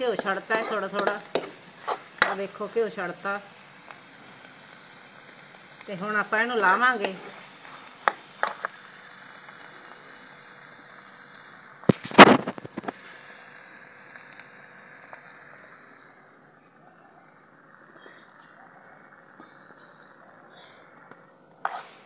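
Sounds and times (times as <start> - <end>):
ghee sizzling: 0.0 - 22.0.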